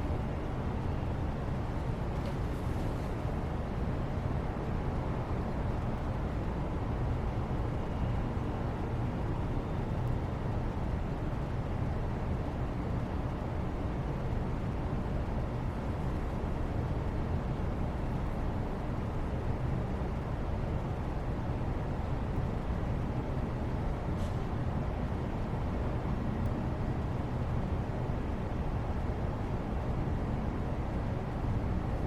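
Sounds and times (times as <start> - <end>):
steady low background noise: 0.0 - 32.0.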